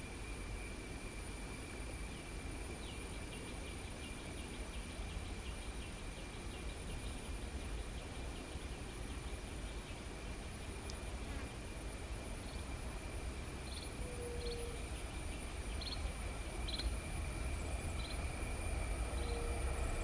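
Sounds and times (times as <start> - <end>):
insects droning: 0.0 - 20.0
steady low rumble: 0.0 - 20.0
fast ticking insect call: 0.2 - 20.0.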